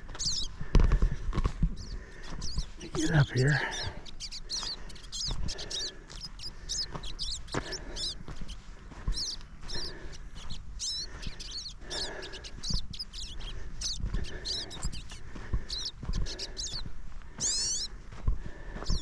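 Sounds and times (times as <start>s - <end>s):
footsteps on a trail: 0.0s - 19.0s
small birds chirping: 0.0s - 19.0s.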